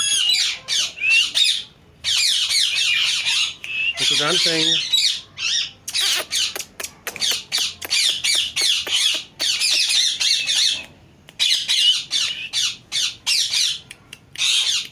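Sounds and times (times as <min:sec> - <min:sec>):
parrot squawking and chattering: 0:00.0 - 0:14.9.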